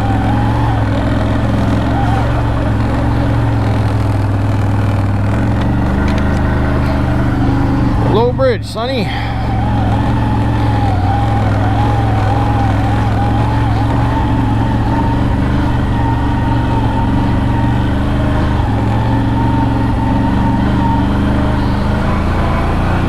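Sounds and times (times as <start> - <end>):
atv engine running: 0.0 - 23.0
thin whine: 0.0 - 23.0.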